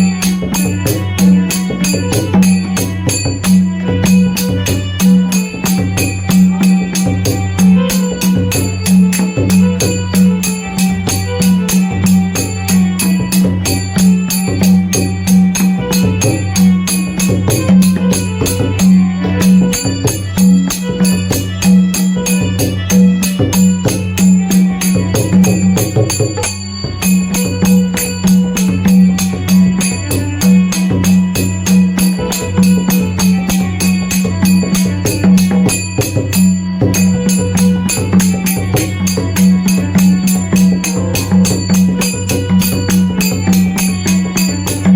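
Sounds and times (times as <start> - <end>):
drums beating fast rhythm: 0.0 - 44.9
rapid jingling: 0.0 - 44.9.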